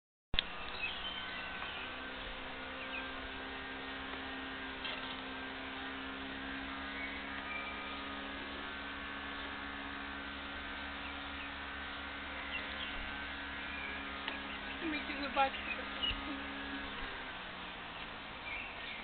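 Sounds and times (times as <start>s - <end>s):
constant hiss: 0.4s - 19.0s
electrical hum: 0.4s - 19.0s.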